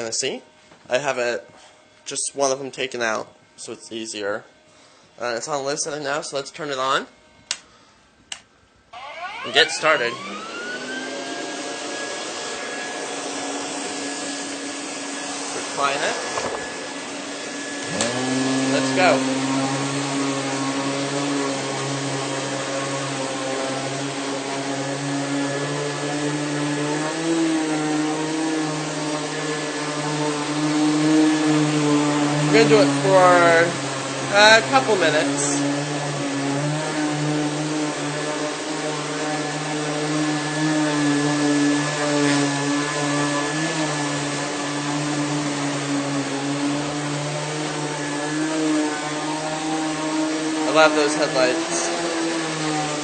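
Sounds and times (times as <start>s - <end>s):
vacuum cleaner running: 9.0s - 53.0s.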